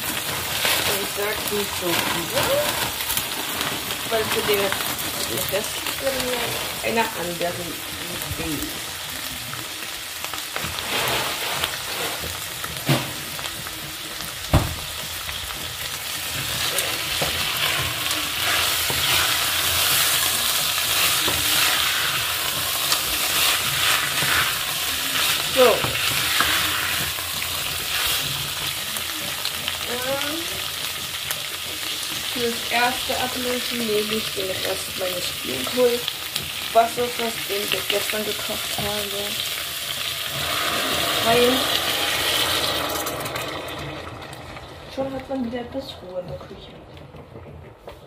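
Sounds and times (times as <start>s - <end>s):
wooden spoon stirring: 0.0s - 8.9s, 10.5s - 43.4s
vegetables sizzling in a pot: 0.0s - 46.4s.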